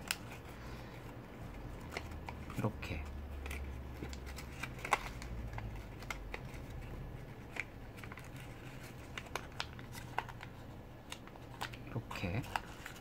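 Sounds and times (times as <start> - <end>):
paper crinkling and creasing: 0.0 - 13.0.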